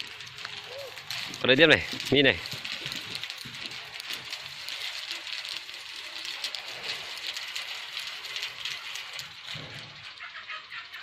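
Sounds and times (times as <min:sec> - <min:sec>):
fine crackling clicks: 0:00.0 - 0:11.0.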